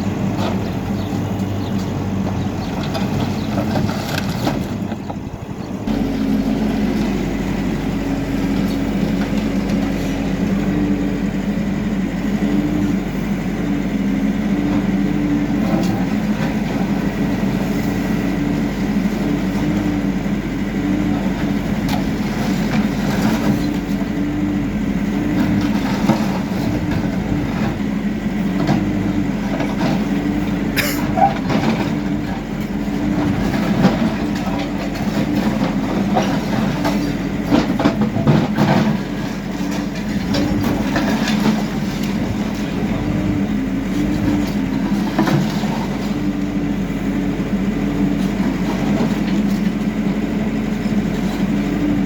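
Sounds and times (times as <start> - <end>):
backhoe diesel engine running: 0.0 - 52.0.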